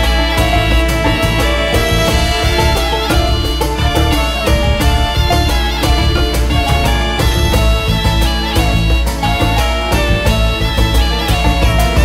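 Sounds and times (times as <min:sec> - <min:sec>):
music with heavy bass beat: 0:00.0 - 0:12.0.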